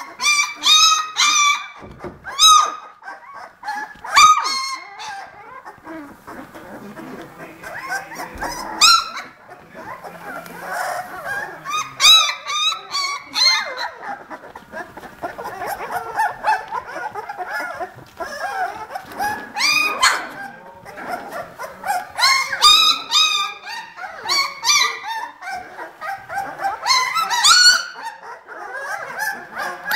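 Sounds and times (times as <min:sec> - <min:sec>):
puppies squeaking and whining: 0:00.0 - 0:29.9.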